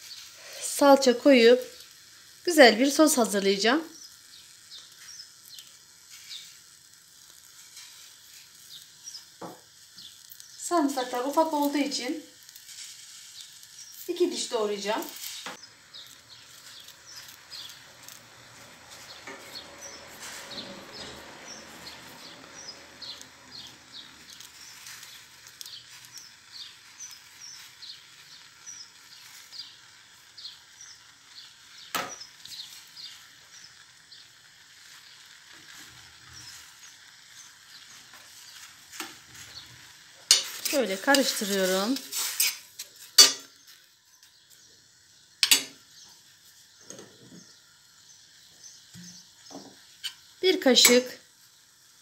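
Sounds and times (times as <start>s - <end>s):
tomatoes sizzling in a pan: 0.0s - 52.0s.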